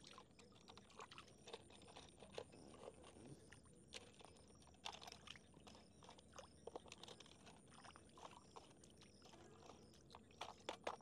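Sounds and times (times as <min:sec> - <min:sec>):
small water splashes and drips: 0:00.0 - 0:11.0.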